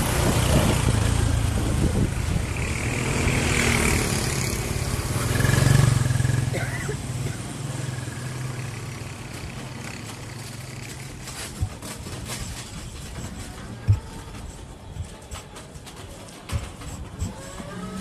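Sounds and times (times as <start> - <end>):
vehicle engine hum: 0.0 - 14.8
road and wind noise: 0.0 - 18.0.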